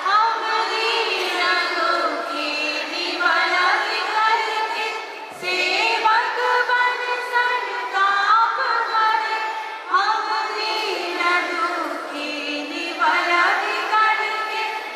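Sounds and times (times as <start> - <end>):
group of voices singing: 0.0 - 14.9.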